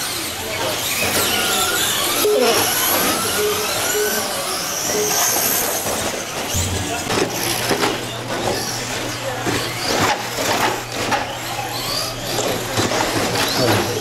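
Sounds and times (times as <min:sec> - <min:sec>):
electric motors whining: 0:00.0 - 0:14.0
toy trucks knocking and clattering: 0:00.0 - 0:14.0.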